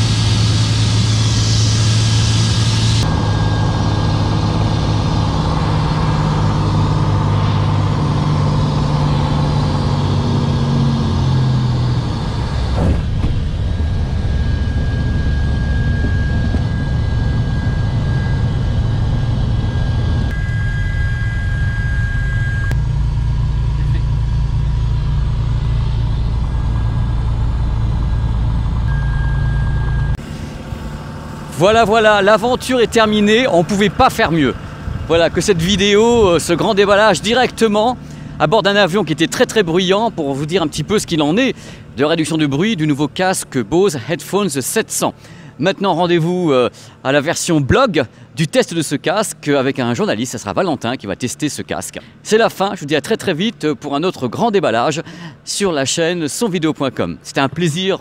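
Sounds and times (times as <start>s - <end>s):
piston aircraft engine and propeller: 0.0s - 58.0s.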